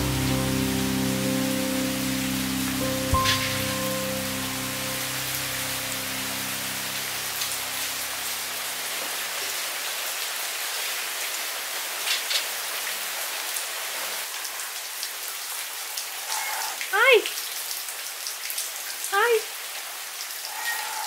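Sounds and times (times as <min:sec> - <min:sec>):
rain falling on pavement: 0:00.0 - 0:21.0.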